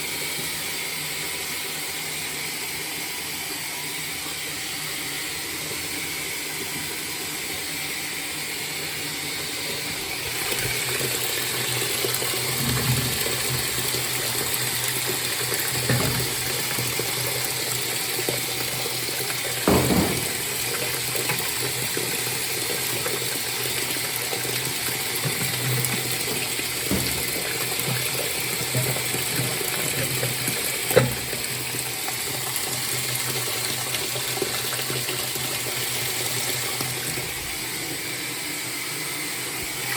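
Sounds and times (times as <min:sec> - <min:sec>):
water rushing into washing machine: 0:00.0 - 0:39.9.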